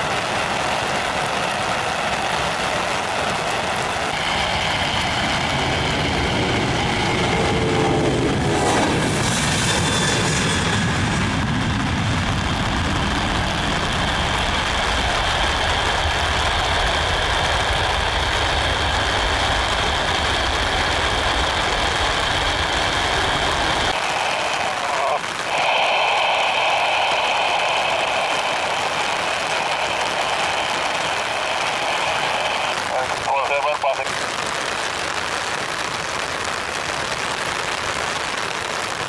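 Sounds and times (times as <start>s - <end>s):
jet engine roar with whine: 0.0s - 34.9s.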